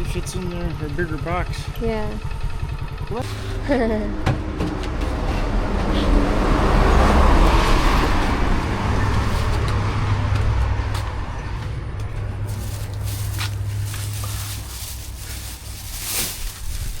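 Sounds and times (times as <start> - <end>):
vehicle engine hum: 0.0 - 17.0
road and wind rush: 3.2 - 17.0.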